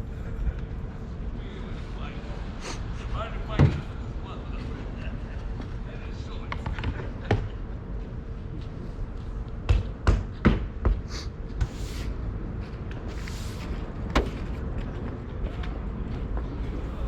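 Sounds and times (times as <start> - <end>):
low outdoor rumble: 0.0 - 9.6, 11.4 - 17.0.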